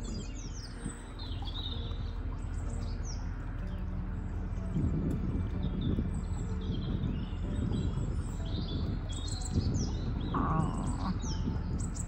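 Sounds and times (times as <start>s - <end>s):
boat engine running: 0.0s - 12.0s
songbirds singing: 0.0s - 12.0s.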